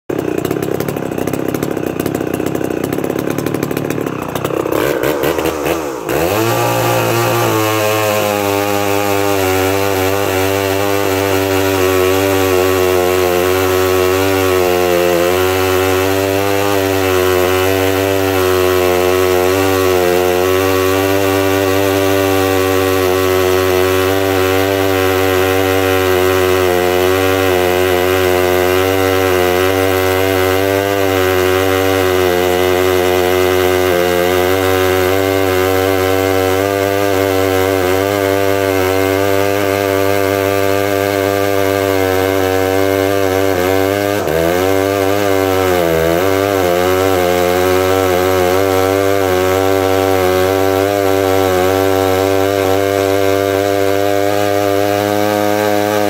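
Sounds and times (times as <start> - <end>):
chainsaw cutting a log: 0.0 - 56.0.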